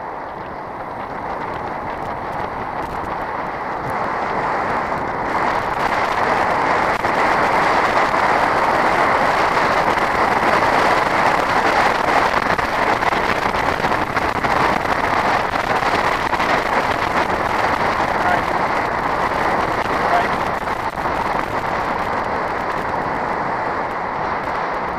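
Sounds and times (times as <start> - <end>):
bike tyres rolling on gravel: 0.0 - 24.9
wind rushing: 0.0 - 24.9.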